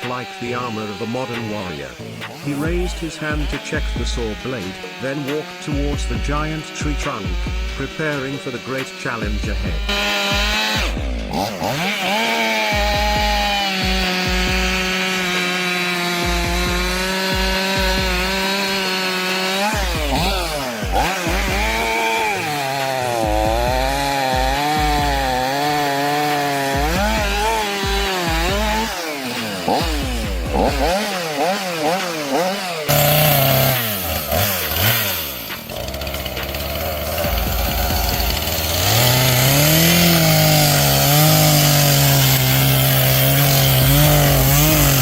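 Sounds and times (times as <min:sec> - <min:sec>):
chainsaw cutting into wood: 0:00.0 - 0:45.0.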